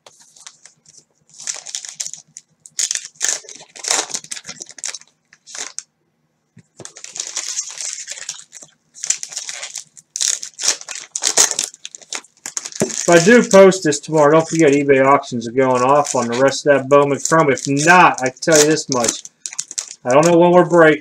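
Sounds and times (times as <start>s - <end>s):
plastic wrapper crinkling and tearing: 0.1s - 5.9s, 6.8s - 20.8s.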